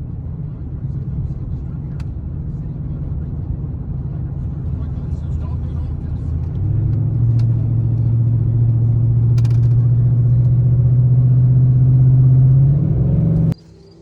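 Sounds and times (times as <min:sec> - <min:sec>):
truck engine accelerating: 0:00.0 - 0:14.0.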